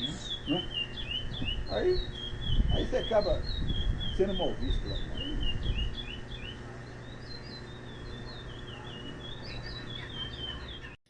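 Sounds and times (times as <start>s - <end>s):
songbird chirping: 0.0s - 11.0s
steady low hum: 0.0s - 11.0s.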